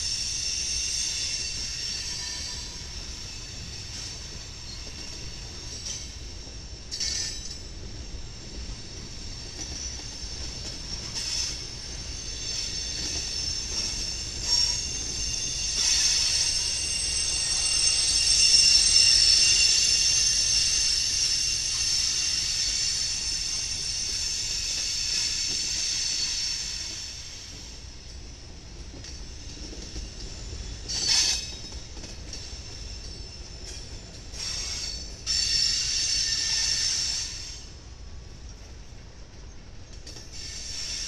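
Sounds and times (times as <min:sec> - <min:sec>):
low rumble of rolling train: 0:00.0 - 0:41.0
train wheels squealing on rails: 0:00.0 - 0:41.0.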